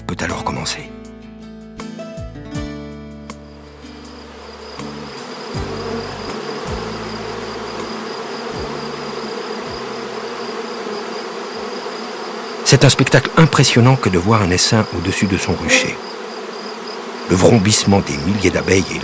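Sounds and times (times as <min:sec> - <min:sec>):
bees buzzing: 0:03.3 - 0:19.0
single bee flying past: 0:03.4 - 0:19.0.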